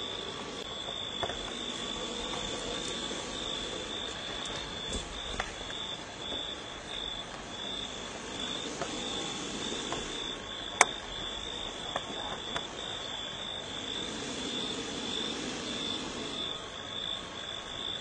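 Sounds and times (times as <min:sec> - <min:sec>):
frogs croaking: 0:00.0 - 0:18.0
insects trilling: 0:00.0 - 0:18.0.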